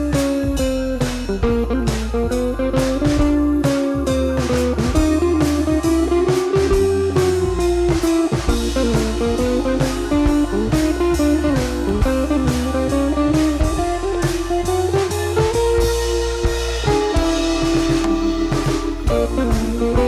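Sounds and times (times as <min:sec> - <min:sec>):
bass: 0:00.0 - 0:20.0
blues electric guitar lead: 0:00.0 - 0:20.0
steady drum beat: 0:00.0 - 0:20.0.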